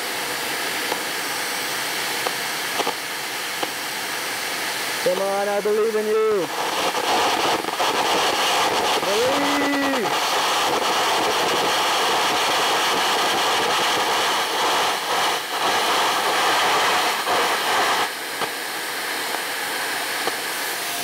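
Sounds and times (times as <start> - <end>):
compressed air jet blowing: 0.0 - 21.0
welding arc crackling and hissing: 0.0 - 21.0.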